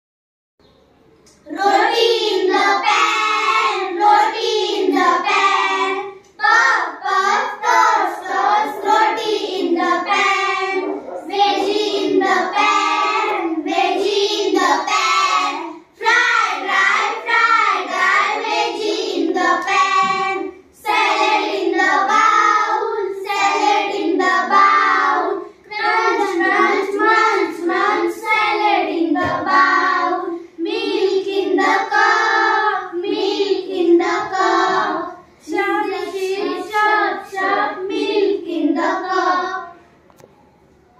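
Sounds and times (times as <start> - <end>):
girls singing in unison: 1.3 - 39.9.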